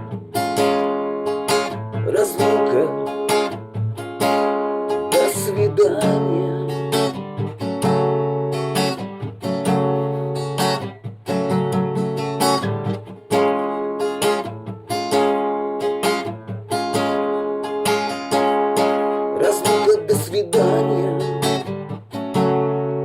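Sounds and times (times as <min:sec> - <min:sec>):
strummed acoustic guitar chords: 0:00.0 - 0:23.0.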